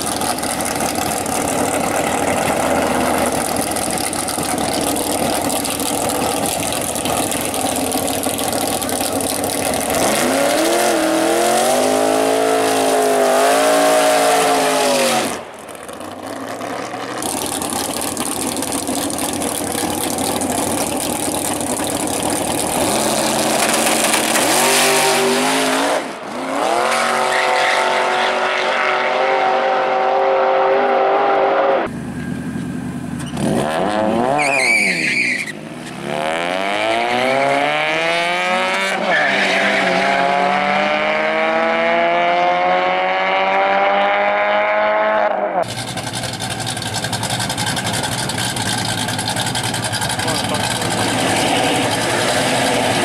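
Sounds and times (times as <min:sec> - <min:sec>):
drag racing engines accelerating: 0:00.0 - 0:31.9, 0:33.2 - 0:53.0.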